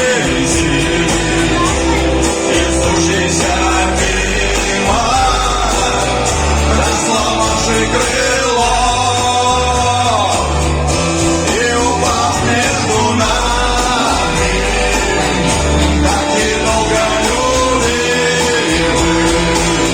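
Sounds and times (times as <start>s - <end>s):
guitar and bass: 0.0s - 19.9s
rock song with singing: 0.0s - 19.9s.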